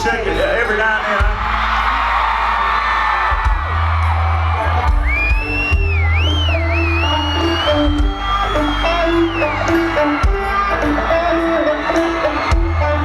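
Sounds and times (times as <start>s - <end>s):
live country band playing: 0.0s - 13.0s.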